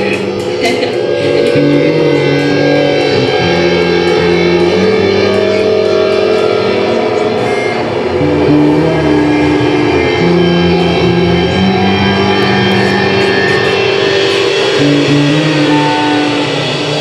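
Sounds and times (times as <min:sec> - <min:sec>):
electric guitar and bass drone: 0:00.0 - 0:17.0.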